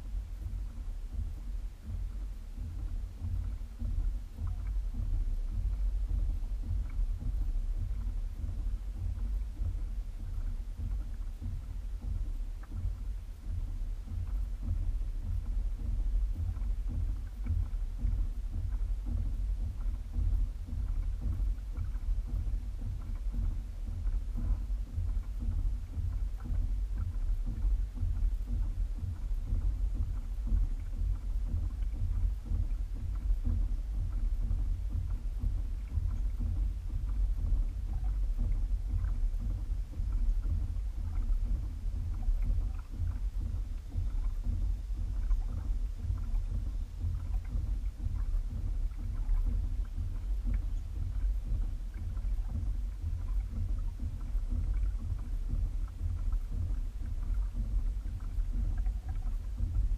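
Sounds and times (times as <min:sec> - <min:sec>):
faint light ticks: 0:00.0 - 0:59.9
pedal kayak low rumble: 0:00.0 - 0:59.9.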